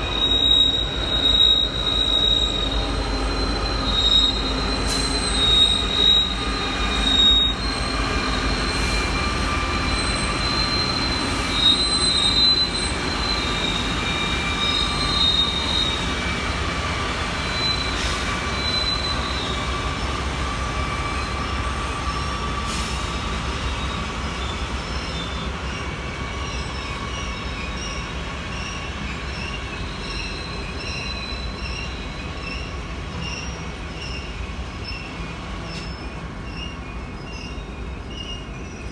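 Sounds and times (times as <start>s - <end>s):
low train rumble: 0.0s - 38.9s
train wheels squealing: 0.0s - 38.9s.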